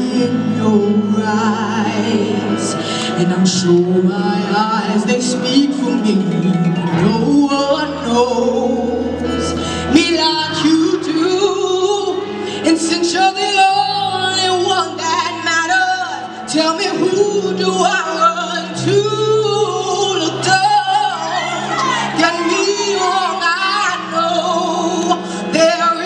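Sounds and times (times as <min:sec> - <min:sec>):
accompanying music with bass notes: 0:00.0 - 0:26.0
person singing into a microphone: 0:00.0 - 0:26.0.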